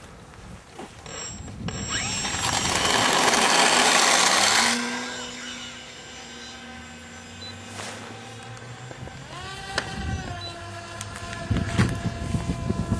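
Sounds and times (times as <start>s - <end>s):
model plane motor and propeller: 0.8s - 12.9s.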